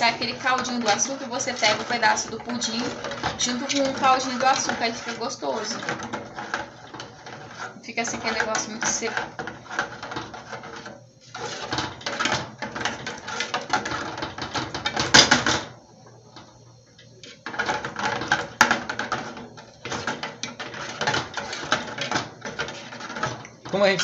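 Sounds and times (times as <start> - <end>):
metal spoon scraping metal mould: 0.0 - 15.6, 17.2 - 24.0.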